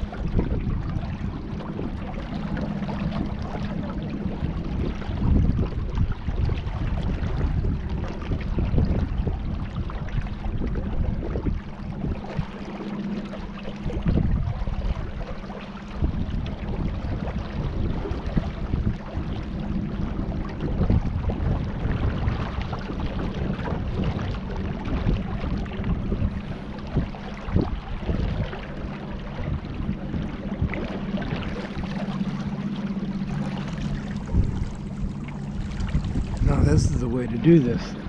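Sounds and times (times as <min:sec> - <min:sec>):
steady low hum: 0:00.0 - 0:38.0
water splashing around hull: 0:00.0 - 0:38.0
wind on microphone: 0:00.0 - 0:38.0.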